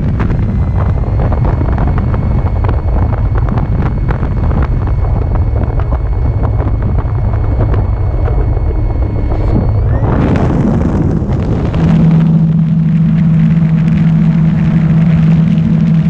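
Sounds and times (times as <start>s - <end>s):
high whine of electric motor: 0.0s - 16.0s
wind buffeting microphone: 0.0s - 16.0s.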